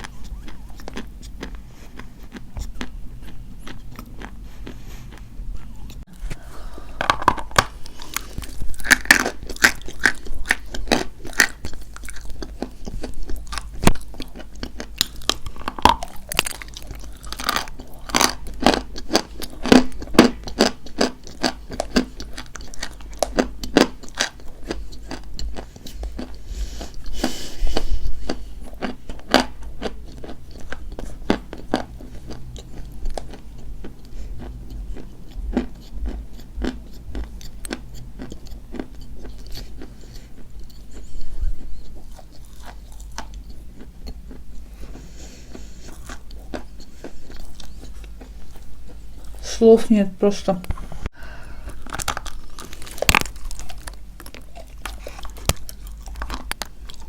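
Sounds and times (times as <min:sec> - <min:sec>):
chalk crunching being chewed: 0:00.0 - 0:06.2, 0:07.2 - 0:49.4, 0:51.7 - 0:57.0.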